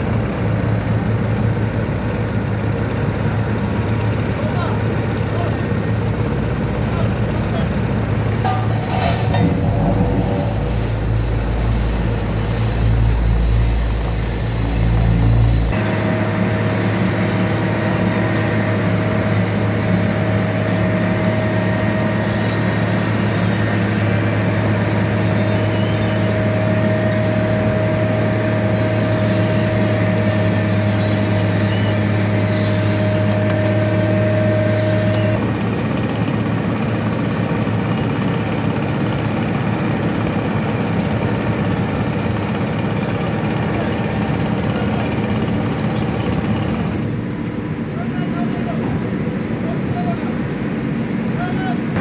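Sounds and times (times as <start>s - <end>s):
diesel engine running steadily: 0.0s - 52.0s.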